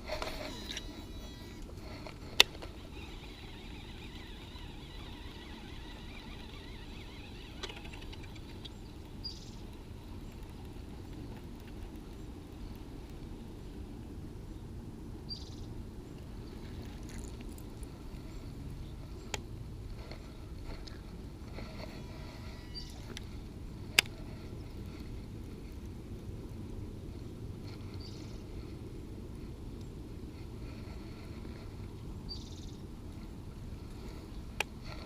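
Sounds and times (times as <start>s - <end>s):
river background noise: 0.0s - 35.0s.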